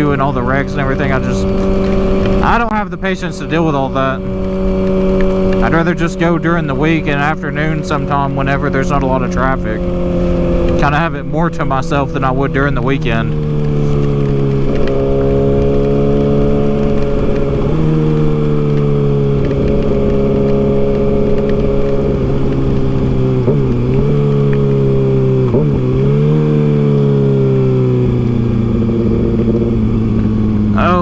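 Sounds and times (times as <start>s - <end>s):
motorcycle engine cruising: 0.0s - 31.0s
wet road noise: 0.0s - 31.0s.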